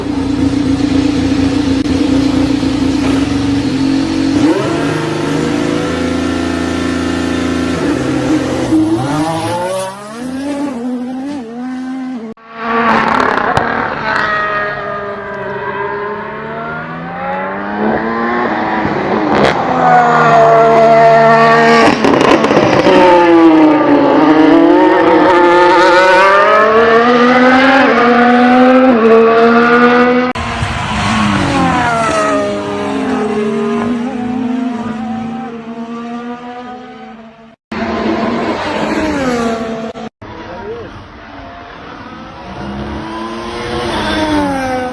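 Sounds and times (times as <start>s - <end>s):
racing car engine at high revs: 0.0s - 44.9s.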